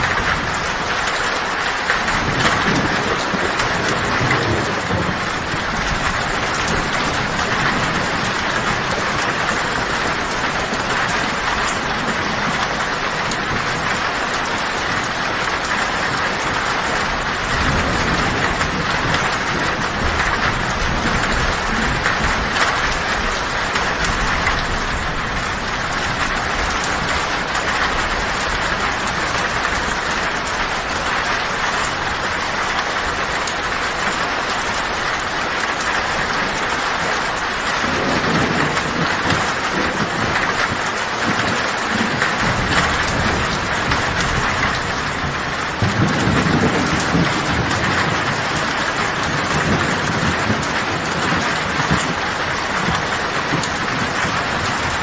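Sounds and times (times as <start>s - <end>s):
rain on a tin roof: 0.0s - 55.0s
thunder rolling: 0.0s - 55.0s.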